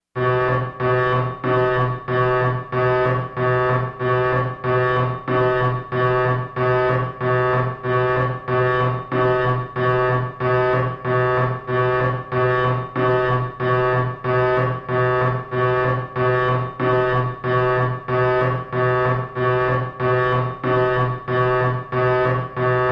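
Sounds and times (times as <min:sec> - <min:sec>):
security alarm pulsing tone: 0:00.2 - 0:22.9.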